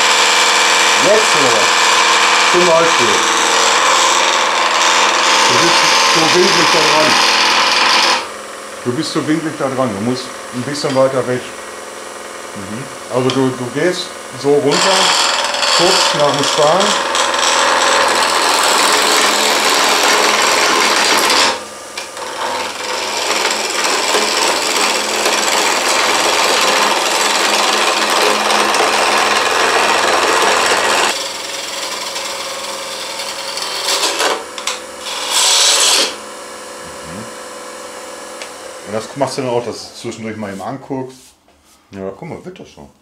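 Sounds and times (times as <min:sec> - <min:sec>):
chisel scraping spinning wood: 0:00.0 - 0:37.4
wood lathe humming: 0:00.0 - 0:40.6.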